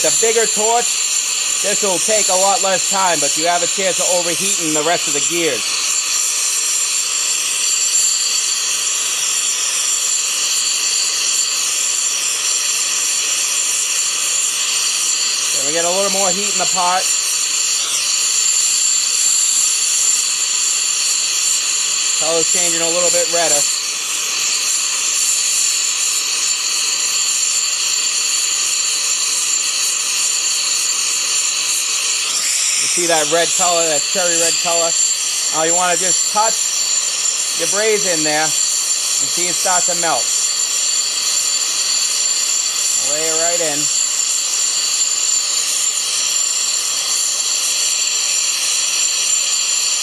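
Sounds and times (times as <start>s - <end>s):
gas torch flame hissing: 0.0s - 50.0s.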